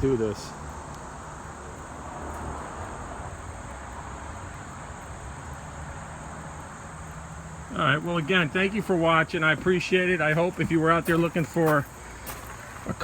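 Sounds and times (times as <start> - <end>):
low background rush: 0.0 - 13.0.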